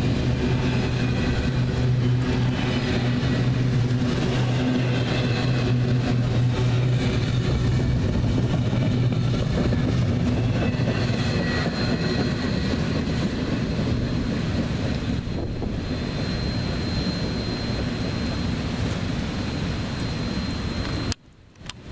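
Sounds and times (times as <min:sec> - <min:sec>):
freight cars rolling on rails: 0:00.0 - 0:21.9.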